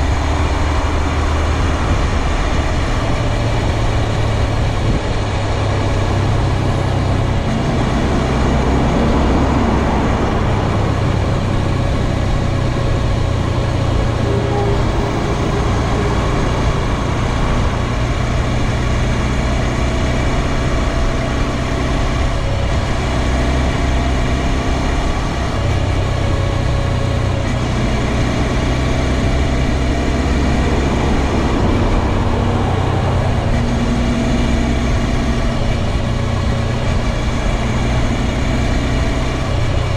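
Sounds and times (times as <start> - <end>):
motorcycle engine running: 0.0 - 39.9
steady noise: 0.0 - 39.9.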